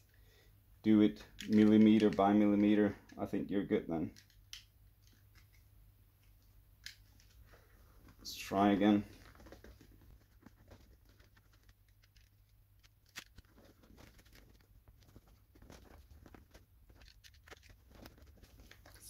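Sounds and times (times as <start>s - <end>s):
handling clicks and rustles: 1.0s - 19.0s.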